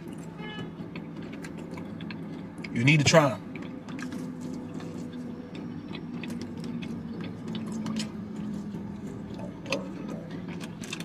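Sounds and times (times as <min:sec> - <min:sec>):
chewing and biting chicken wings: 0:00.0 - 0:02.8, 0:03.4 - 0:11.0
low car interior hum: 0:00.0 - 0:11.0.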